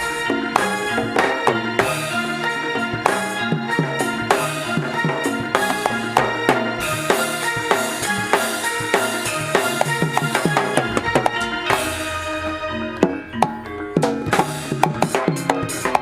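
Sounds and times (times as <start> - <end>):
cymbal crash: 0.0 - 15.9
drums and percussion: 0.0 - 16.0
ringing pitched tones: 0.0 - 16.0.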